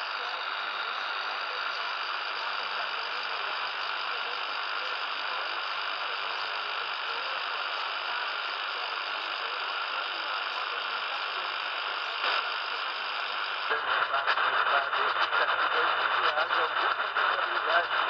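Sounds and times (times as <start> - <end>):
radio static hiss: 0.0 - 18.0
radio station talk: 0.0 - 18.0.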